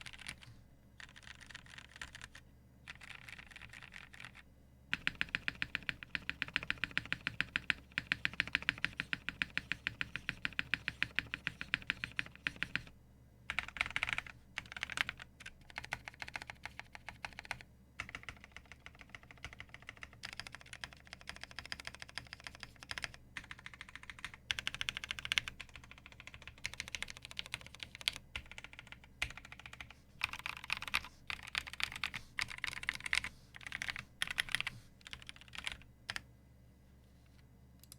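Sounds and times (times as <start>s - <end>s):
mechanical keyboard typing: 0.0s - 12.9s, 13.5s - 36.2s.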